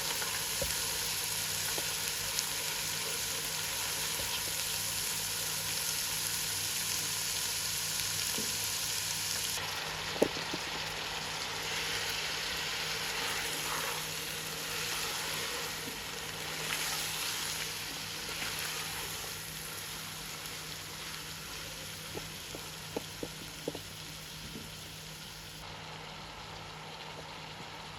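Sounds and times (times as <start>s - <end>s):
spices sizzling in oil: 0.0s - 27.9s.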